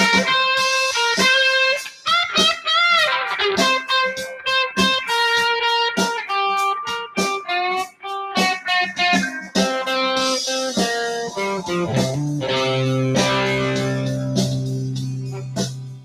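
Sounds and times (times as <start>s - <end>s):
guitar picked notes: 0.0s - 16.0s.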